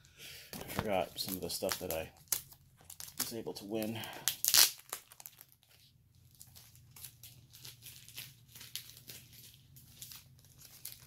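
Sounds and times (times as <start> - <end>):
packaging crinkling and rustling: 0.6 - 11.0
packaging ripping: 0.8 - 11.0.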